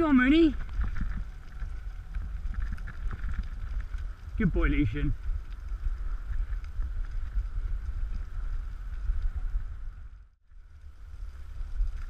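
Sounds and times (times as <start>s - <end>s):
wheels rumbling on dirt track: 0.0s - 12.0s
wind on microphone: 0.0s - 12.0s.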